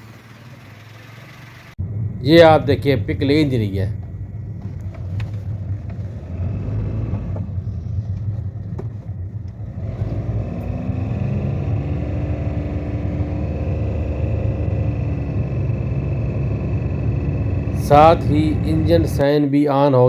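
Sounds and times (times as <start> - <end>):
faint engine note rising: 0.0 - 19.2
car engine and road rumble: 0.0 - 19.3.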